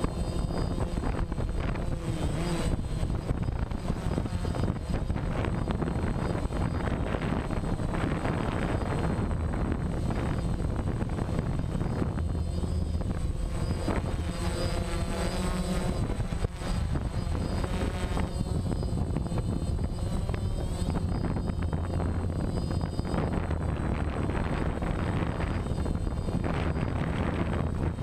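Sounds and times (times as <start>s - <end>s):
model helicopter rotor and motor: 0.0s - 28.0s.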